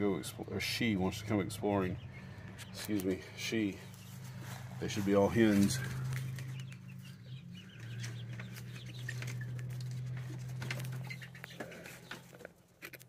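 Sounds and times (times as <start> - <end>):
chicks peeping and chirping: 0.0 - 13.0.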